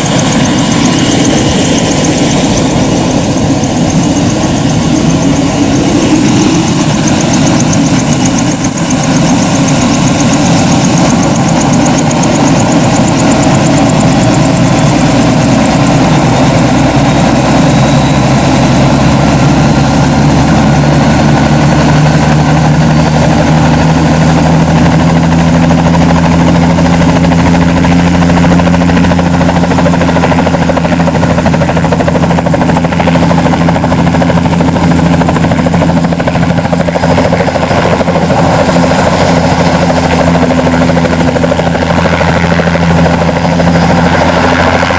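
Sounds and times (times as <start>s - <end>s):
helicopter rotor and engine: 0.0s - 44.9s
helicopter turbine whine: 0.0s - 44.9s.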